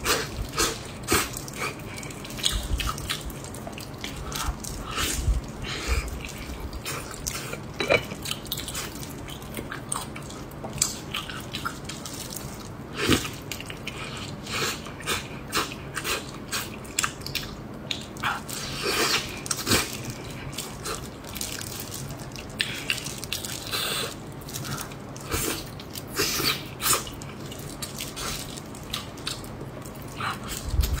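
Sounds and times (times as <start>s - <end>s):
person chewing with mouth smacks: 0.0s - 31.0s.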